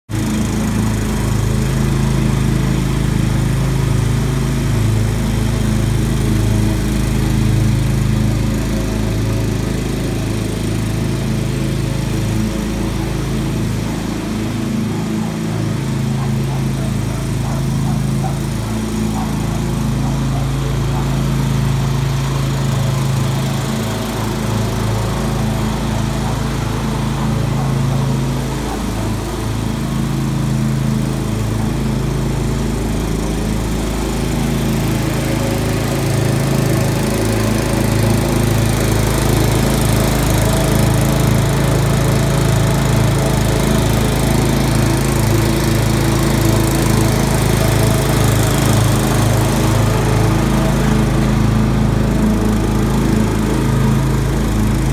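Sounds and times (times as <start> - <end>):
lawn mower engine running: 0.1 - 54.9.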